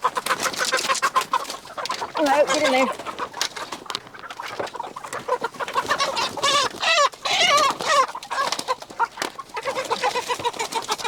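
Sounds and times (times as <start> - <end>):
chickens squawking in alarm: 0.0 - 11.0.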